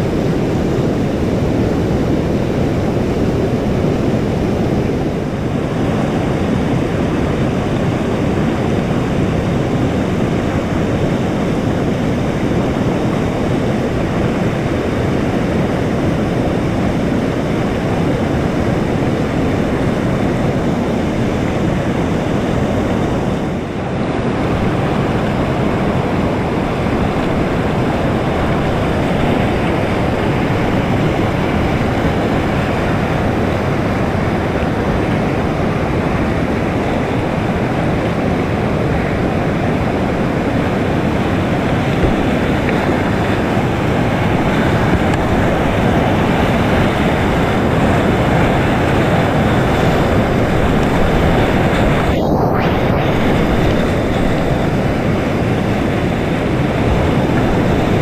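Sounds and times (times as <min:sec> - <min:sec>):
river whitewater rushing: 0:00.0 - 0:58.0.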